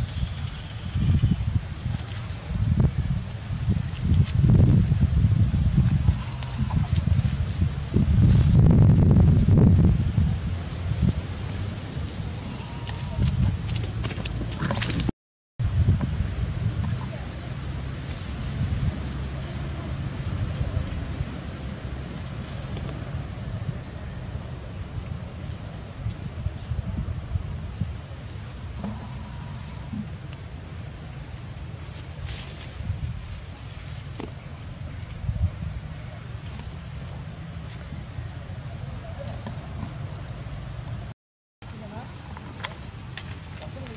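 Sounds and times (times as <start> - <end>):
low rumbling noise: 0.0 - 41.1.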